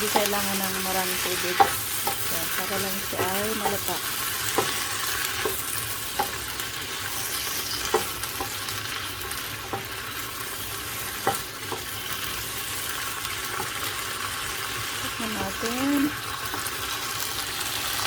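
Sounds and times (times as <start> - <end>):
cabbage sizzling in a pan: 0.0 - 18.0.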